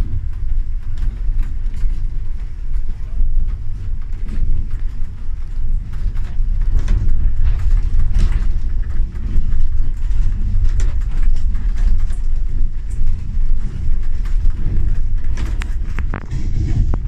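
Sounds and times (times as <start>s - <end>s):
body rattles and knocks: 0.0s - 17.0s
trolleybus ride rumble: 0.0s - 17.0s.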